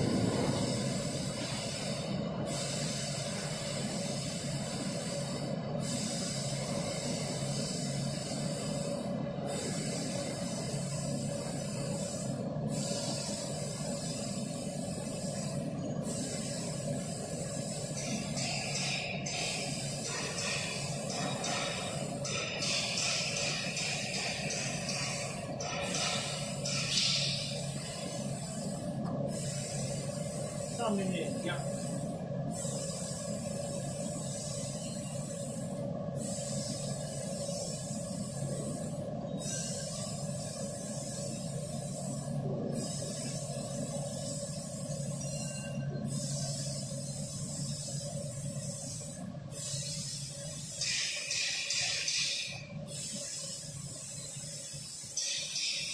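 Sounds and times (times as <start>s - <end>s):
factory hall rumble and hiss: 0.0s - 55.9s.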